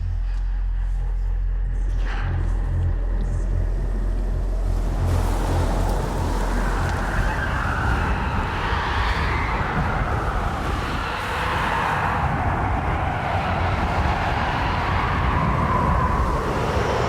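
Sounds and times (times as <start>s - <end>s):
loud rumbling noise: 0.0s - 17.0s.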